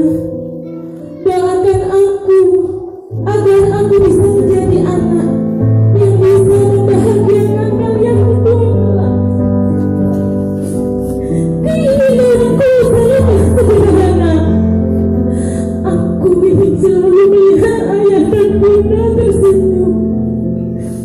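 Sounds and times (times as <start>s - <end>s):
person singing a melody: 0.0s - 9.5s, 10.7s - 15.1s, 15.7s - 20.1s.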